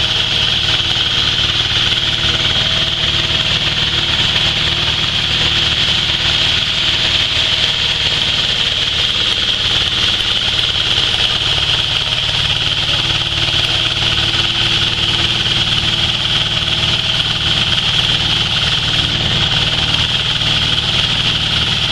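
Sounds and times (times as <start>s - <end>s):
hammer mill high whir: 0.0s - 21.9s
hammer mill low pulsing hum: 0.0s - 21.9s.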